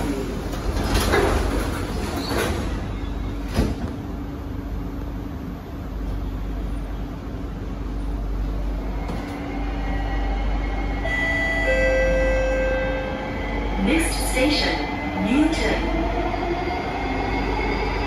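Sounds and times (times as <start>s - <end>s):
multi-tone train whine: 0.0s - 18.0s
train rumbling and hissing: 0.0s - 18.0s.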